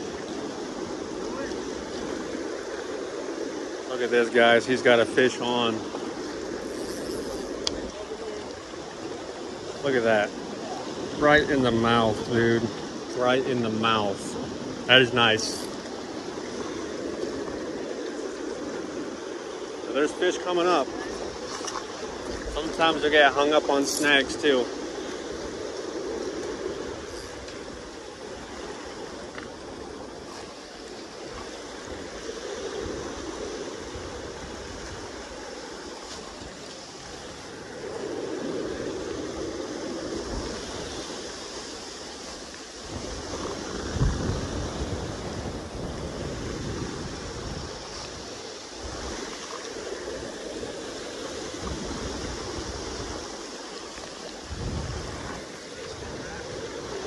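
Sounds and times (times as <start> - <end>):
river water rushing: 0.0 - 57.0
wind on microphone: 0.0 - 57.0.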